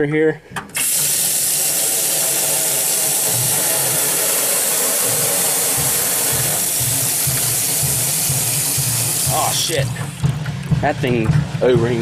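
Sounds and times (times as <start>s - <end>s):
faucet stream spattering into basin: 0.8s - 10.8s.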